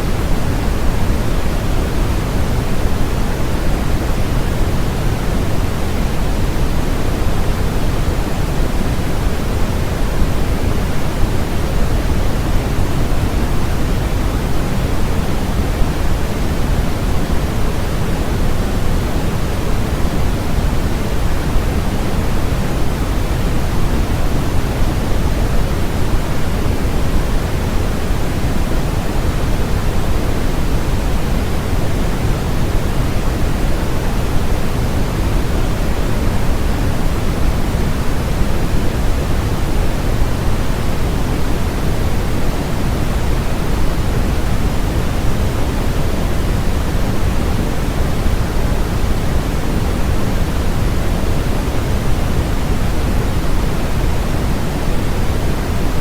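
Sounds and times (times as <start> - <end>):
steady generated noise: 0.0 - 56.0.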